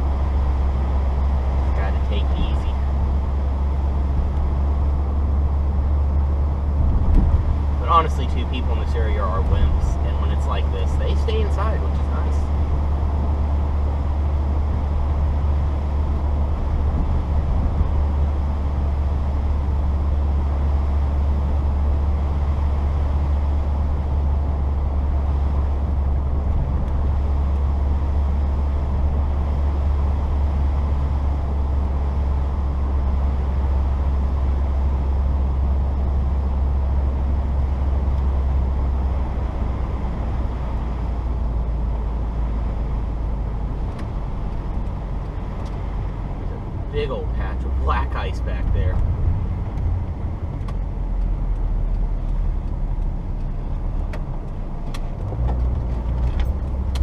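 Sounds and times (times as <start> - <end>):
car engine and road noise drone: 0.0 - 57.0.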